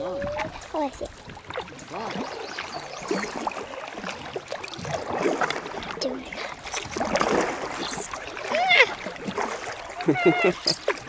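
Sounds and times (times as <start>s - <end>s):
paddles dipping through water: 0.0s - 11.0s
water lapping along hull: 0.0s - 11.0s
water splashes: 0.0s - 11.0s.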